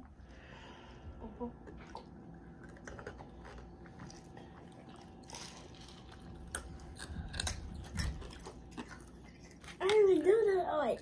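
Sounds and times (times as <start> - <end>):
child chewing food: 0.0 - 11.0.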